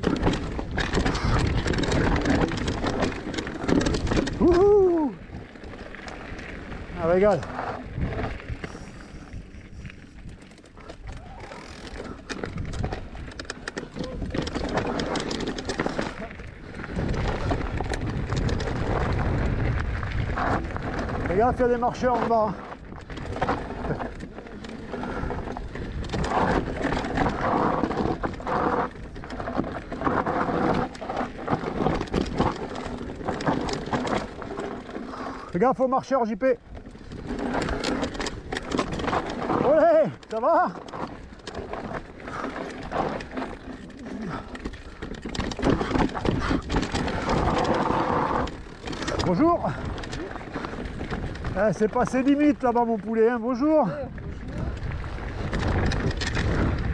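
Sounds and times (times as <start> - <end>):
bike rattling clicks: 0.0 - 56.9
bike tyre rumble on trail: 0.0 - 56.9.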